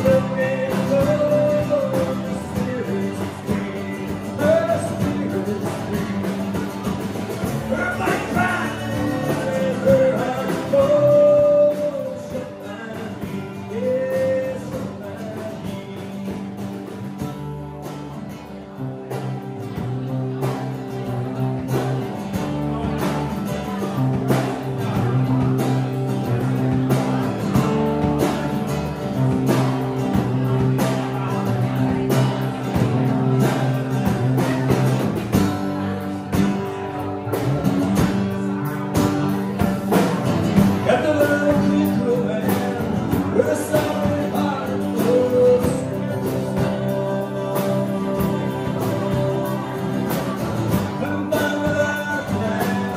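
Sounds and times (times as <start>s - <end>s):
drum kit: 0.0s - 52.9s
electric guitar: 0.0s - 52.9s
man singing: 0.0s - 52.9s
strummed acoustic guitars: 0.0s - 52.9s.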